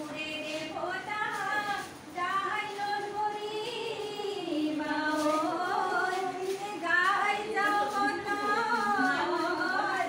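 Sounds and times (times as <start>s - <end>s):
women singing unaccompanied: 0.0s - 10.0s.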